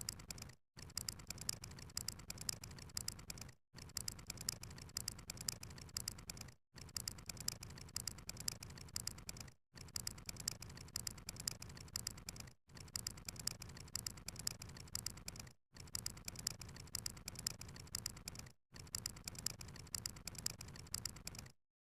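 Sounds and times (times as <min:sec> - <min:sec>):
rapid sharp clicks: 0:00.0 - 0:21.6.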